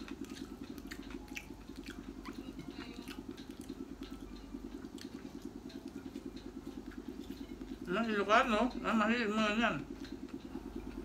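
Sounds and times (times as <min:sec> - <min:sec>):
pulsing machine hum: 0:00.0 - 0:11.0.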